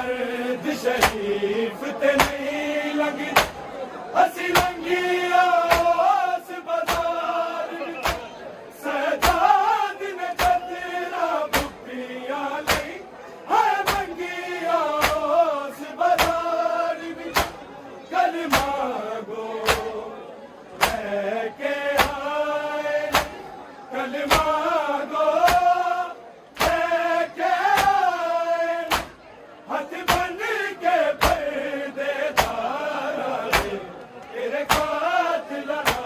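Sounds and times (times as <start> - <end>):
men chanting a lament: 0.0 - 36.0.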